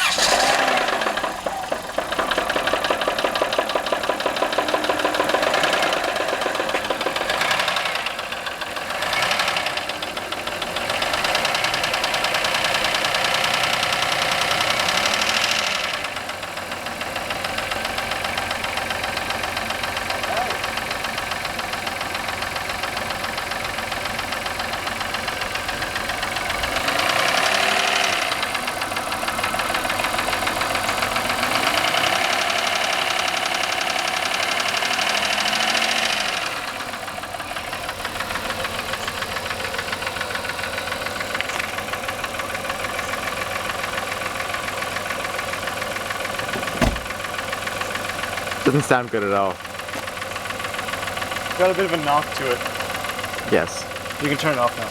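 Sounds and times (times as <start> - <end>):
knocking engine revving: 0.0 - 54.9.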